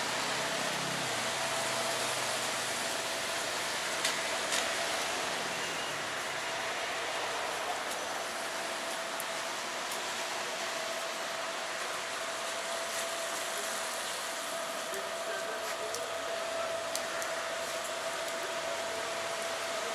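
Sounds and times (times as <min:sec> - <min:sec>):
rain on wet street: 0:00.0 - 0:19.9.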